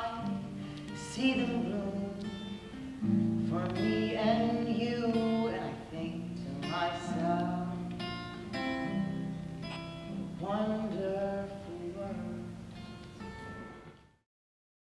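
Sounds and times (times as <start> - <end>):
acoustic guitar music: 0.0 - 14.2.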